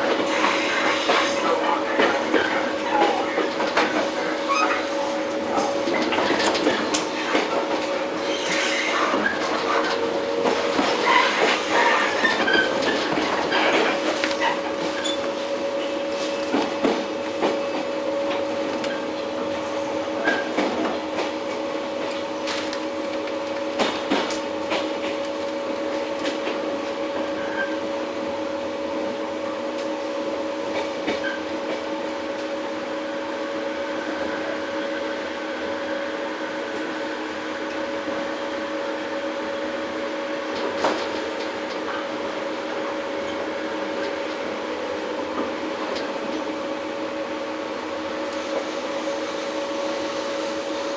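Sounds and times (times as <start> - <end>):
train motor hum: 0.0 - 50.9.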